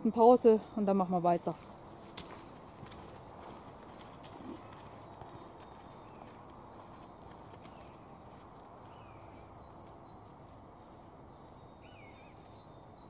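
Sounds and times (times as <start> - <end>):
small birds singing: 0.0 - 13.0
footsteps crunching on dry leaves: 1.3 - 11.8.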